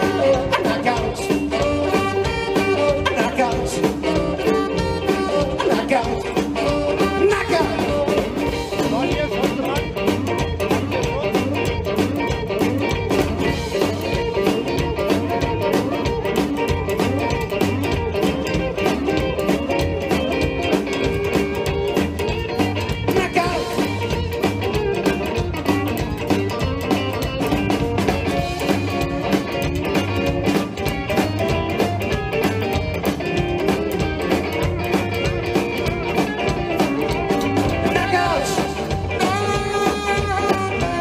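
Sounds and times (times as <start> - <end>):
rock and roll band playing: 0.0 - 41.0.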